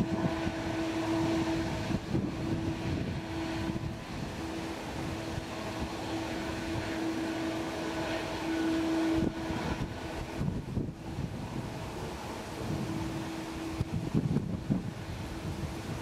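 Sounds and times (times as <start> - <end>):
jet engines rushing and humming: 0.0 - 16.0.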